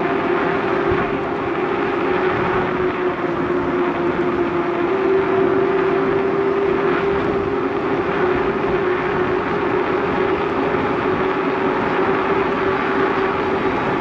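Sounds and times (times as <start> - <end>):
constant whine: 0.0 - 14.0
wind rushing over microphone: 0.0 - 14.0.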